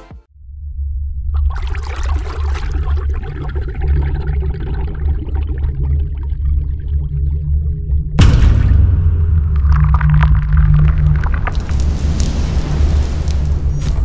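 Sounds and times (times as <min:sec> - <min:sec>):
deep steady rumble: 0:00.3 - 0:14.0
dense watery crackling: 0:01.4 - 0:14.0.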